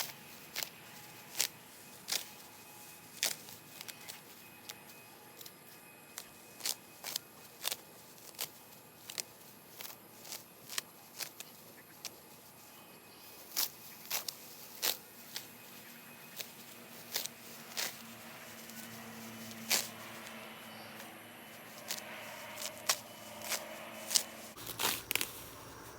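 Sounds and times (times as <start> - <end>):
grass being pulled up by hand: 0.0 - 25.9.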